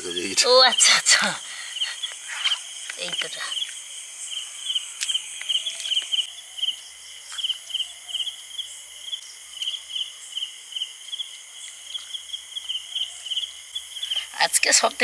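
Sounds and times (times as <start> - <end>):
crickets chirping: 0.0 - 15.0
high insect hiss: 0.0 - 15.0.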